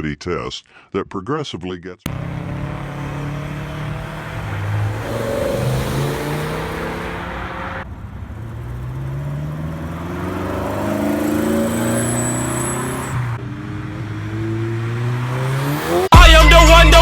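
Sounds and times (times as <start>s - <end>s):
car engine revving and accelerating: 2.1s - 16.2s.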